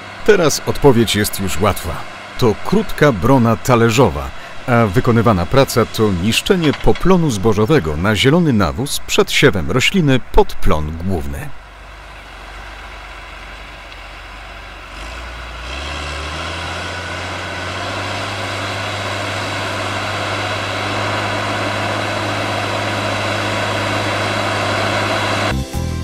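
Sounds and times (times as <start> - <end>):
tractor diesel engine under load: 0.0 - 25.6.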